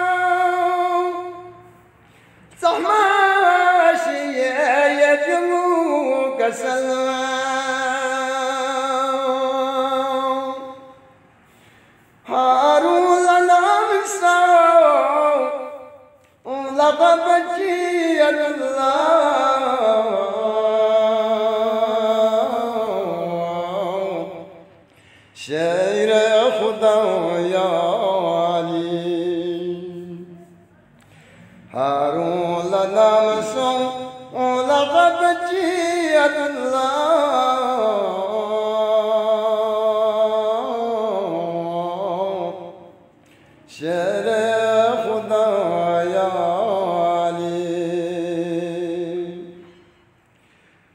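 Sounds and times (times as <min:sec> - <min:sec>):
man chanting unaccompanied: 0:00.0 - 0:01.9, 0:02.5 - 0:11.2, 0:12.2 - 0:24.8, 0:25.4 - 0:30.8, 0:31.7 - 0:49.8.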